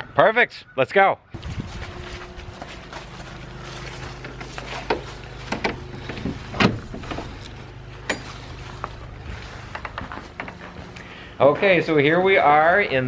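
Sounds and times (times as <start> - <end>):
steady low hum: 1.4 - 13.0.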